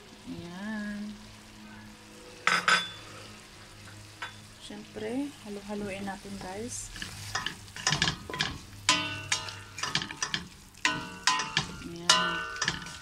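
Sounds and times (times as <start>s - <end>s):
frying sizzle: 0.0s - 13.0s.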